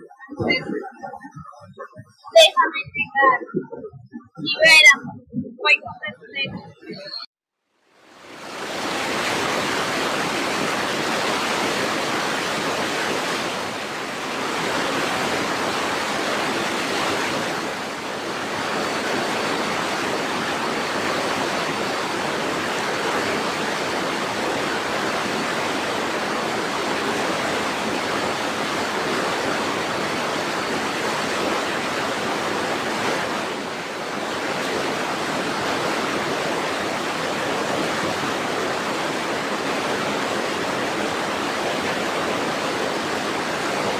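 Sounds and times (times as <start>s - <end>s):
rushing water roar: 0.0s - 43.9s.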